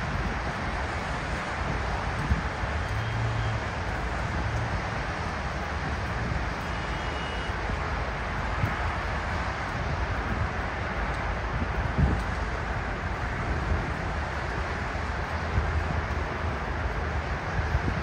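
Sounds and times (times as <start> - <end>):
vehicle rumble and hiss: 0.0 - 18.0.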